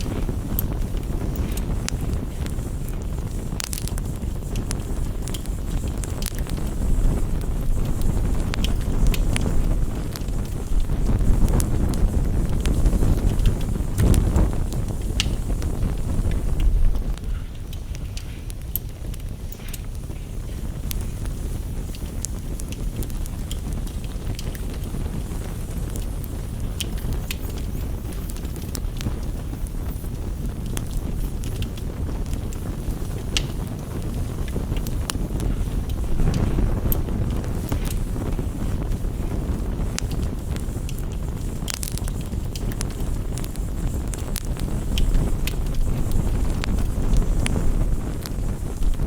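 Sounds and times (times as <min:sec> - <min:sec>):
rain rushing: 0:00.0 - 0:17.2, 0:20.4 - 0:49.0
campfire crackling and popping: 0:00.0 - 0:49.0
steady low rumble: 0:00.0 - 0:49.0.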